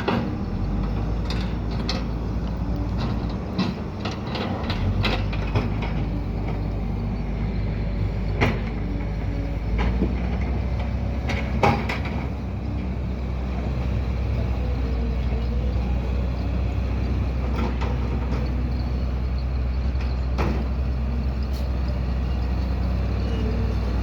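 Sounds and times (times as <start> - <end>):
diesel earthmoving machines running: 0.0 - 24.0.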